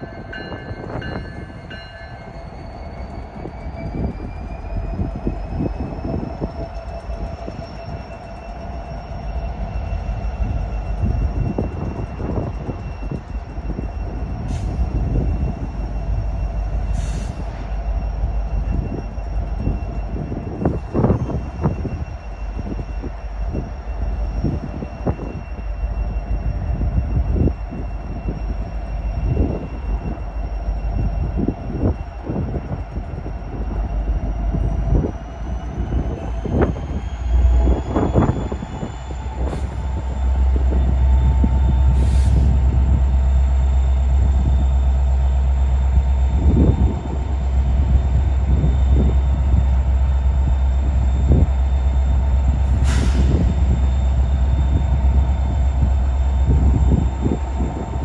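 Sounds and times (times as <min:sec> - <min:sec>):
high steady squeal: 0:00.0 - 0:58.0
locomotive engine rumble: 0:00.0 - 0:58.0.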